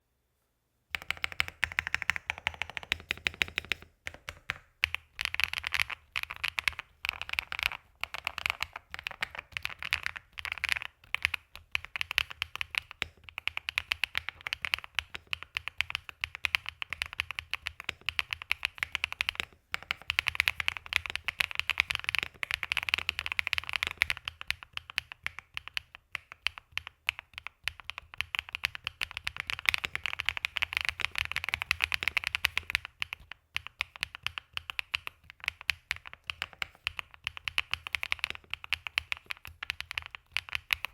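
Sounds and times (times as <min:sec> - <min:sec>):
typing on mechanical keyboard: 0:00.9 - 0:40.9.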